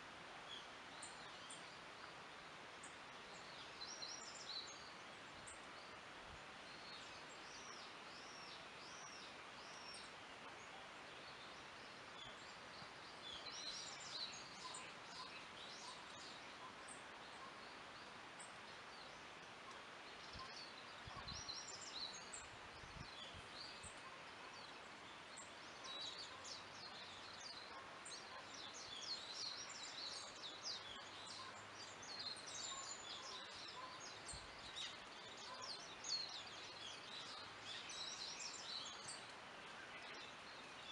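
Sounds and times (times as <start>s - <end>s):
songbirds chirping and trilling: 0.0s - 40.9s
steady soft hiss: 0.0s - 40.9s.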